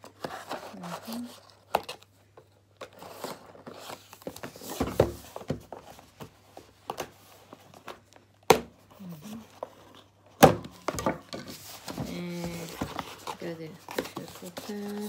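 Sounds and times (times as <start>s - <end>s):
cardboard scraping and rustling: 0.0s - 2.1s, 2.8s - 8.2s, 9.0s - 15.0s.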